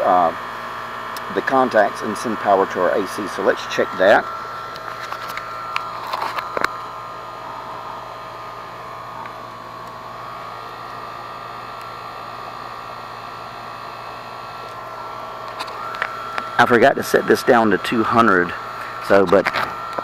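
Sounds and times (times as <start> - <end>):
machine hum with tones: 0.0 - 20.0.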